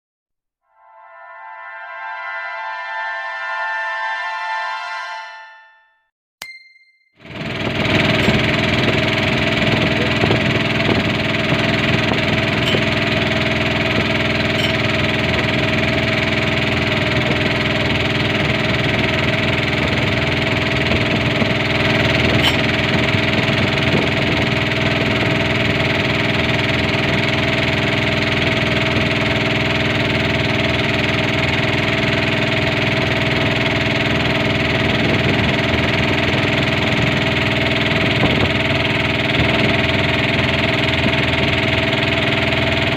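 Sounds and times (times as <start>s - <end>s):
boat engine running: 7.2s - 42.9s.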